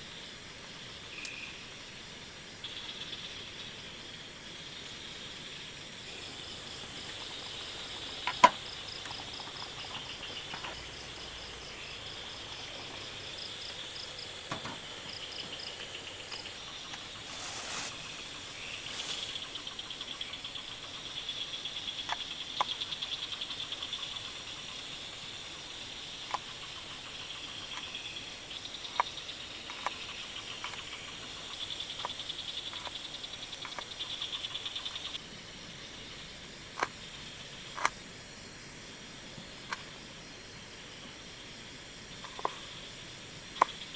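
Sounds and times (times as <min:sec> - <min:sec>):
forest insects trilling: 0:00.0 - 0:43.9.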